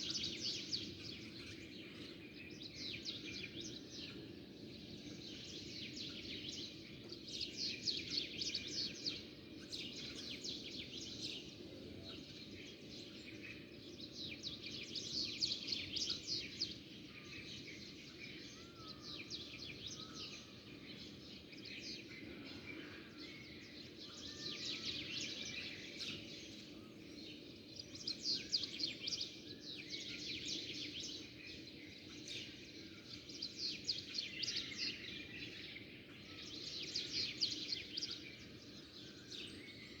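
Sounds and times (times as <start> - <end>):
small songbirds chirping: 0.0 - 40.0.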